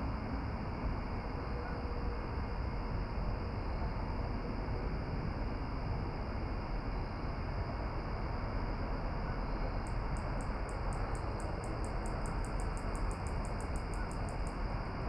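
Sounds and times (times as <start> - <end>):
outdoor hiss and rumble: 0.0 - 15.0.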